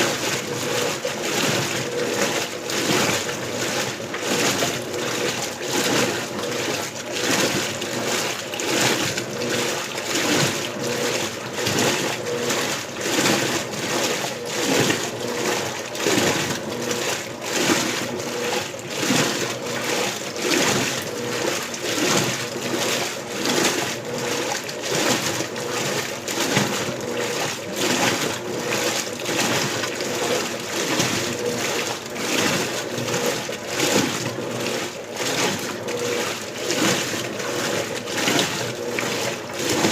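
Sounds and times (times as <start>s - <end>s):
washing machine sloshing water: 0.0s - 39.9s.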